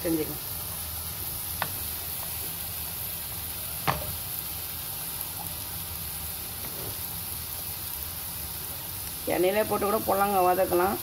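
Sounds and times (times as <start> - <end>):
onions sizzling in pan: 0.0 - 11.0.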